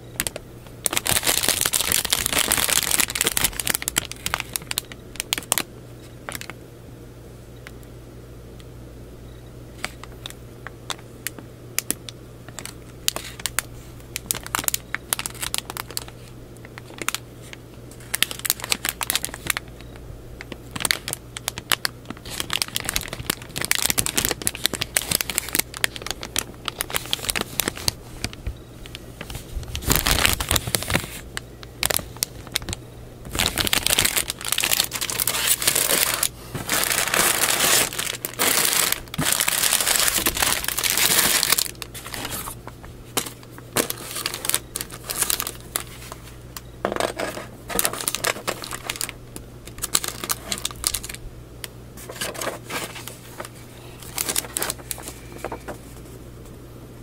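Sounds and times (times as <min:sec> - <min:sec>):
plastic bags crinkling: 0:00.0 - 0:06.6, 0:09.8 - 0:51.2, 0:52.0 - 0:56.0.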